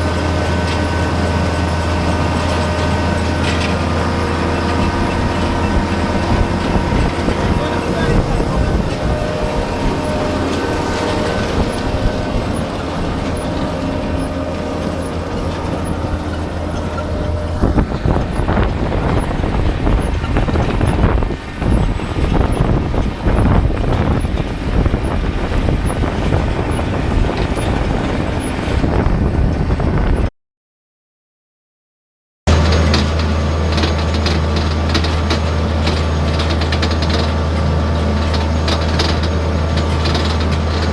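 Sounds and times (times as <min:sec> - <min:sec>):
harvester engine drone: 0:00.0 - 0:30.3, 0:32.5 - 0:40.9
rumble and rattle: 0:00.0 - 0:30.3, 0:32.5 - 0:40.9.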